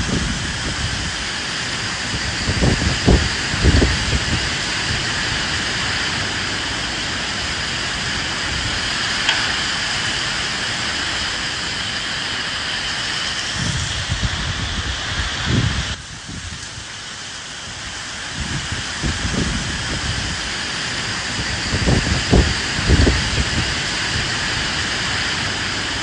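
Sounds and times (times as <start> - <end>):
rain falling with wind: 0.0 - 26.0.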